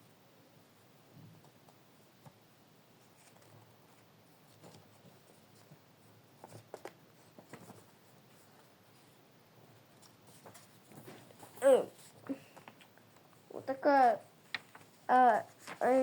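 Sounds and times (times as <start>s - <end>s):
faint rustling of packaging: 1.1s - 16.0s.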